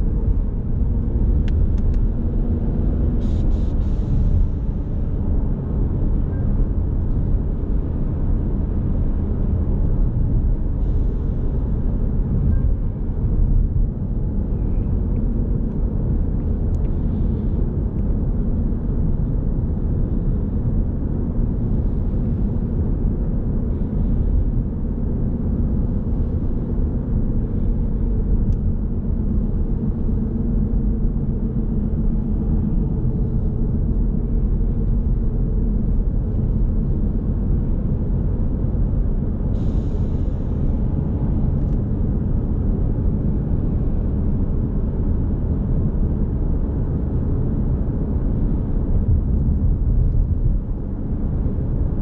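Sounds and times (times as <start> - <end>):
car engine cruising: 0.0 - 52.0
road and tyre noise: 0.0 - 52.0.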